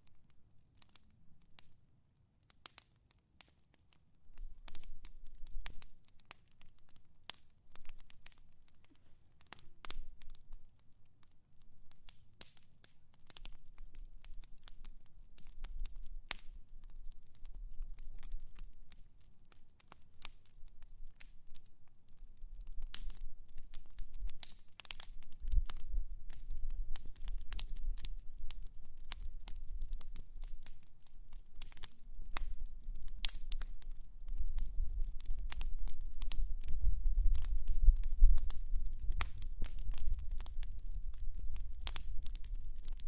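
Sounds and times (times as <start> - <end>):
fire crackling and popping: 0.0 - 43.0.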